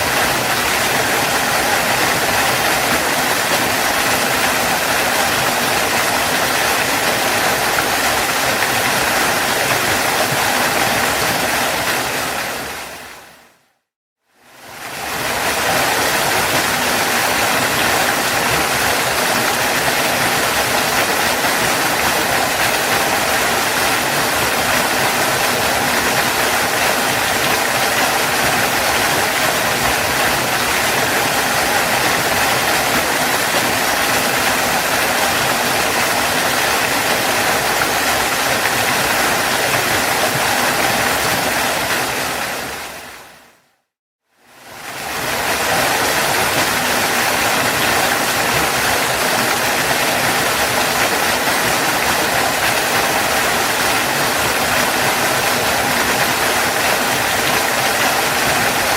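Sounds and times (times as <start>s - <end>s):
waterfall rushing: 0.0s - 13.6s, 14.6s - 43.6s, 44.6s - 58.9s.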